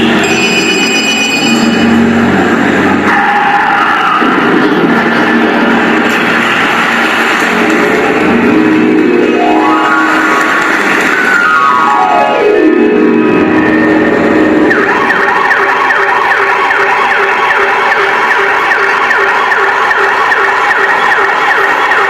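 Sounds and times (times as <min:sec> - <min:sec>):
siren yelping: 0:00.0 - 0:05.0, 0:08.5 - 0:22.0.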